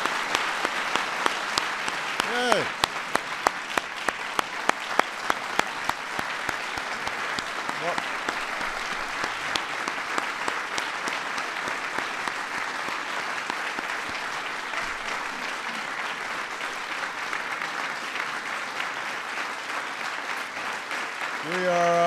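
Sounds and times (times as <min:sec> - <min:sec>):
large audience applauding: 0:00.0 - 0:22.0.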